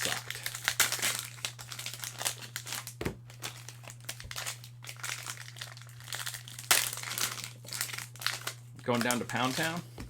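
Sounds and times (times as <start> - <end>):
cellophane crinkling and tearing: 0.0 - 9.8
low electrical hum: 0.0 - 10.0.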